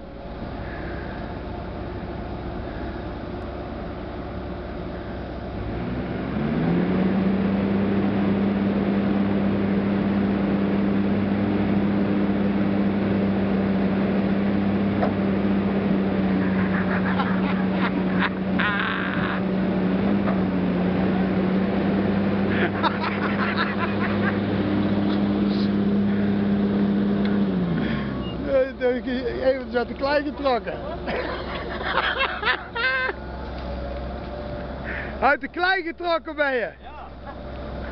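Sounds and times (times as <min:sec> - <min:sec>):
excavator diesel engine revving: 0:00.0 - 0:37.9.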